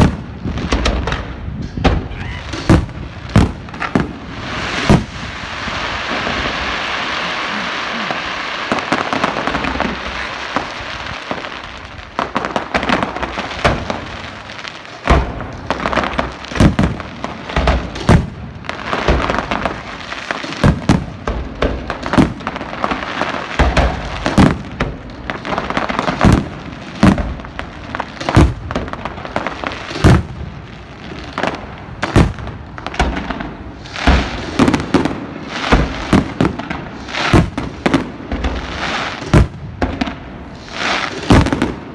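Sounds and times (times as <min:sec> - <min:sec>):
fireworks bangs and booms: 0:00.0 - 0:41.9.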